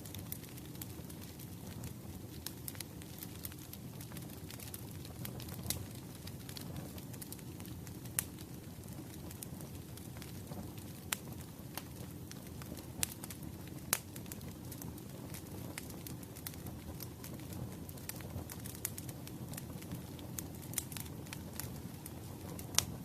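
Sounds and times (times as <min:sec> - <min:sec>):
firewood crackling and popping: 0:00.0 - 0:23.0
low rumble of flames: 0:00.0 - 0:23.0.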